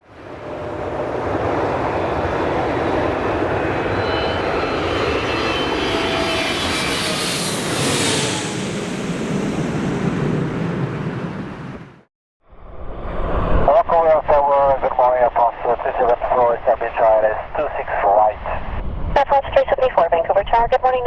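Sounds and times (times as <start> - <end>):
jet engines of passing airliner: 0.0 - 20.8.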